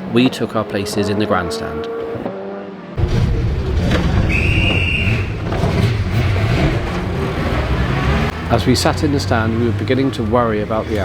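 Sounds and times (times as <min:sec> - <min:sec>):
race car engines rumbling: 0:00.0 - 0:11.0.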